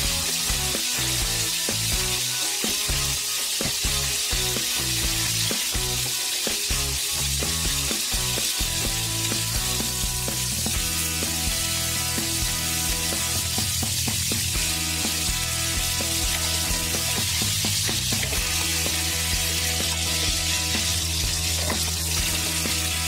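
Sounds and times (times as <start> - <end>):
background music with bass notes: 0.0 - 23.0
meat sizzling in a frying pan: 0.0 - 23.0.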